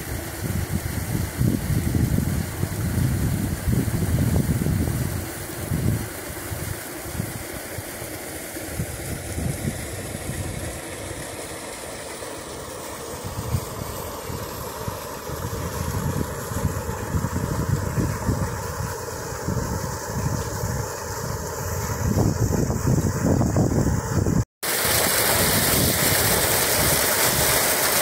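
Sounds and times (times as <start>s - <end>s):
shallow stream running: 0.0s - 23.2s, 24.6s - 28.0s.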